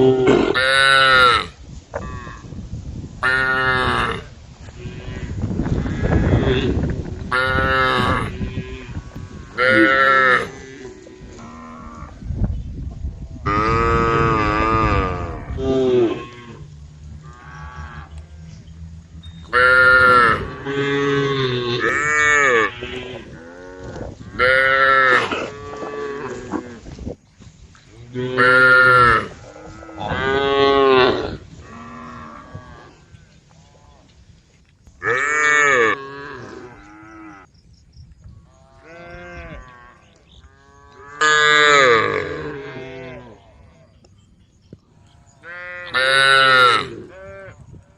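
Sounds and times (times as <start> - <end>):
cows mooing: 3.2 - 12.2, 13.4 - 26.9, 28.0 - 34.0, 35.0 - 37.5, 38.5 - 43.8, 45.0 - 47.6.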